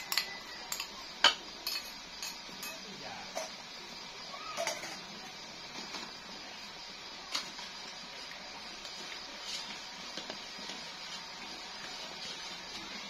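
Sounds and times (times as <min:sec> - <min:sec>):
pot hissing on stove: 0:00.0 - 0:13.0.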